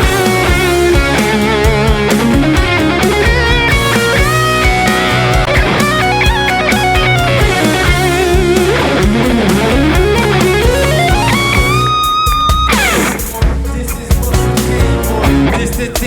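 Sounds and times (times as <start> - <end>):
electric guitar solo: 0.0 - 13.3
bass and drums: 0.0 - 16.0.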